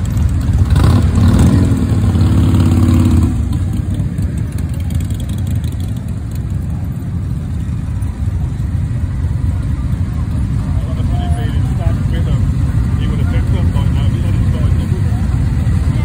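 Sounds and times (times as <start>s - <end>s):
motorcycle engine revving: 0.0s - 16.0s
motorcycle engines idling: 0.0s - 16.0s.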